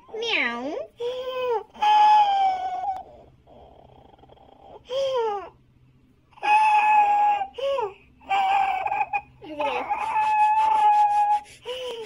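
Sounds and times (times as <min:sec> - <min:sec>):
baby crying: 0:01.0 - 0:05.6, 0:06.4 - 0:12.0.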